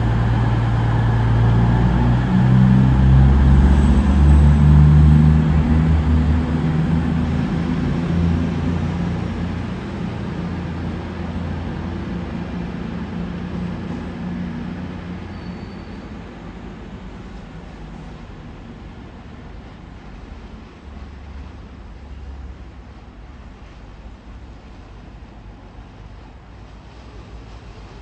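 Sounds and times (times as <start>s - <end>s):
diesel train engine running: 0.0s - 28.0s.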